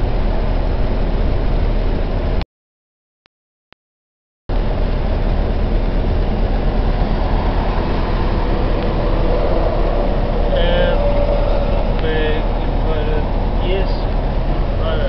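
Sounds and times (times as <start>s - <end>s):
car interior road rumble: 0.0s - 2.4s, 4.5s - 15.0s.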